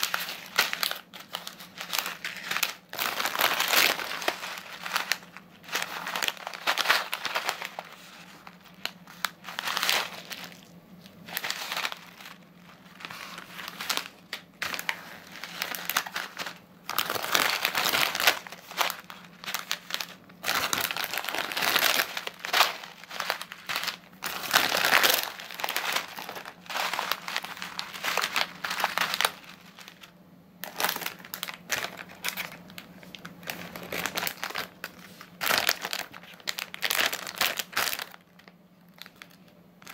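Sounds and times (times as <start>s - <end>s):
plastic snack packets crinkling: 0.0s - 39.9s.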